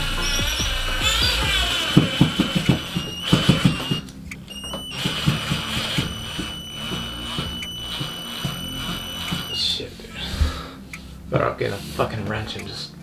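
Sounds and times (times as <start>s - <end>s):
power drill straining and knocking: 0.0s - 12.7s.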